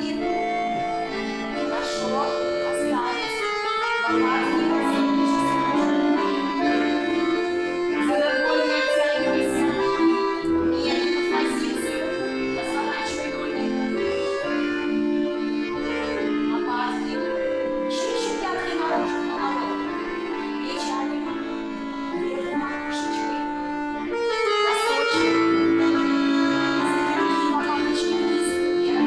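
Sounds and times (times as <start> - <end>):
accordion playing slow melody: 0.0 - 29.0.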